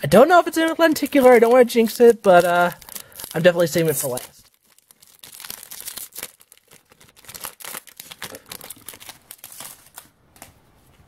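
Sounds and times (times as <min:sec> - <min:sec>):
foil wrapper crinkling and tearing: 0:00.2 - 0:10.5.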